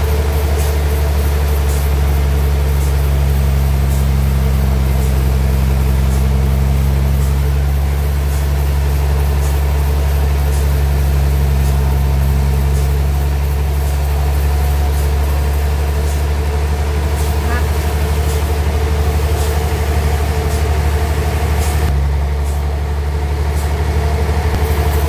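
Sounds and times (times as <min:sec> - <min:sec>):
sawmill engine humming: 0:00.0 - 0:25.0.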